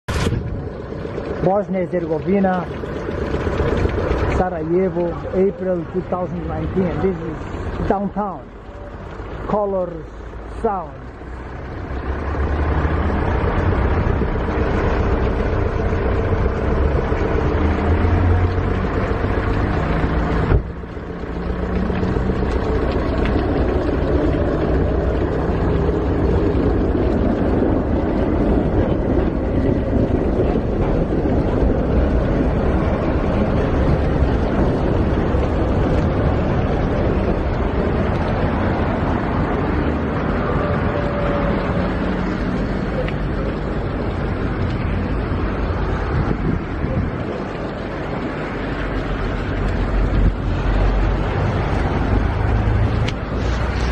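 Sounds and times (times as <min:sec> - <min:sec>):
city street traffic: 0:00.0 - 0:53.9.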